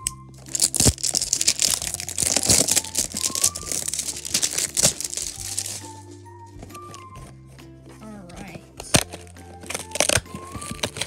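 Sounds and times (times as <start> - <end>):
plastic wrapping crinkling and tearing: 0.0 - 7.4, 8.8 - 11.0.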